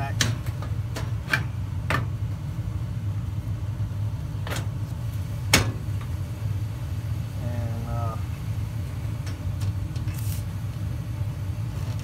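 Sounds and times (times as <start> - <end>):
gas furnace rumbling: 0.0 - 12.0.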